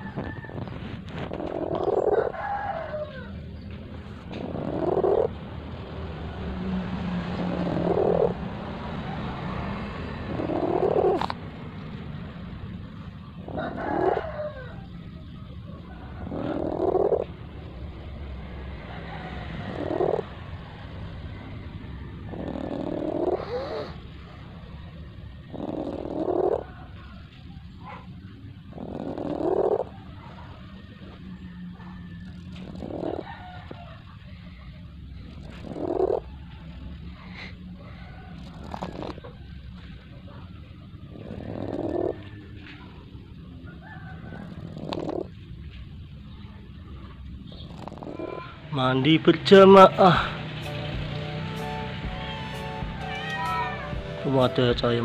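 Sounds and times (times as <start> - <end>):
cat purring: 0.0 - 3.2, 3.9 - 6.0, 6.9 - 50.3.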